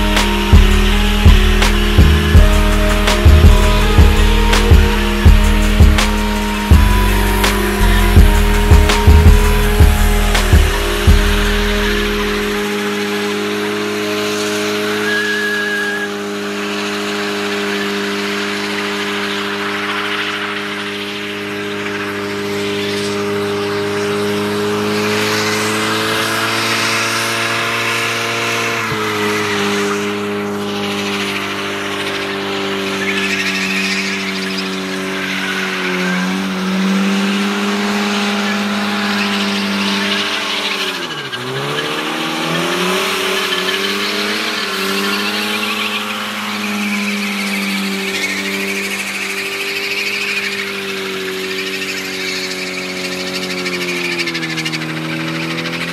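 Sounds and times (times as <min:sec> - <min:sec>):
car engine at high revs: 0:00.0 - 0:55.9
tyre squeal: 0:00.0 - 0:55.9.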